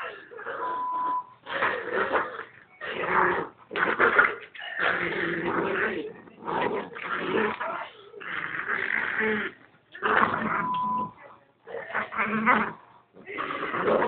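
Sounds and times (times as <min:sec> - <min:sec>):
dogs growling: 0:00.0 - 0:11.1, 0:11.7 - 0:14.0.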